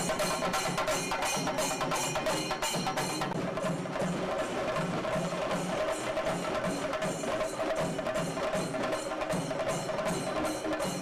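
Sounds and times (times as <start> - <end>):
drums: 0.0 - 11.0.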